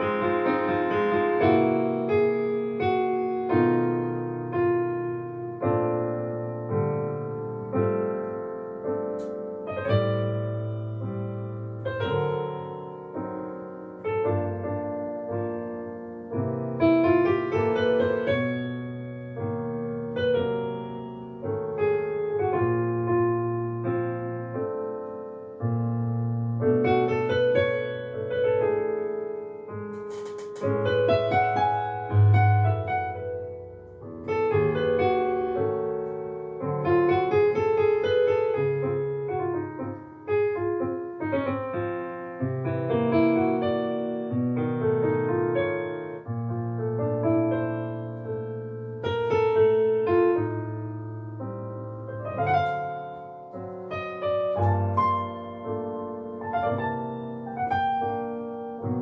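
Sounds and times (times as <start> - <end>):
piano jazz ballad: 0.0 - 59.0.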